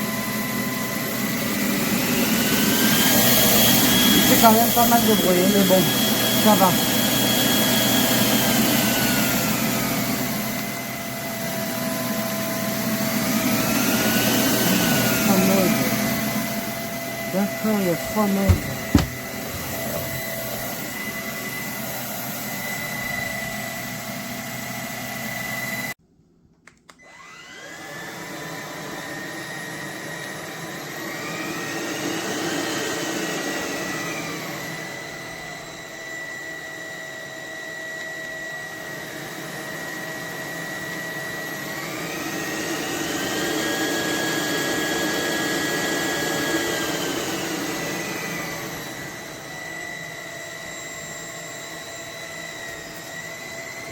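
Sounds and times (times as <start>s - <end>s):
stick vacuum motor whine: 0.0s - 25.7s, 27.0s - 53.9s.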